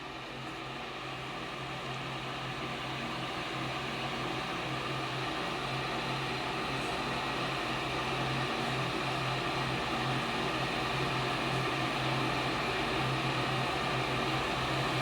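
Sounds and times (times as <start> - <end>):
electric kettle heating water: 0.0 - 15.0.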